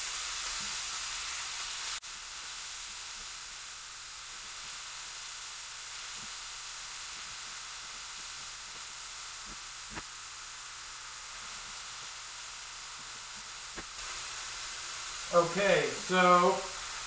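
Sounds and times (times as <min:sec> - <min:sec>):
food sizzling in a skillet: 0:00.0 - 0:17.0.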